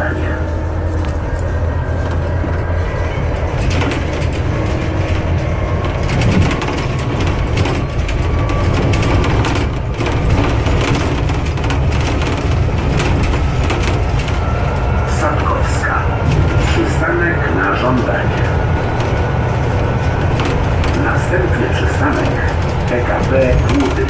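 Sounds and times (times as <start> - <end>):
bus engine and road drone: 0.0 - 24.0
body rattles and knocks: 0.5 - 24.0.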